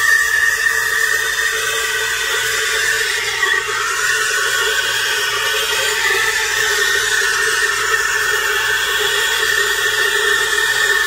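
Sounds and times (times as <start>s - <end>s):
steam wand hissing in milk: 0.0s - 11.0s.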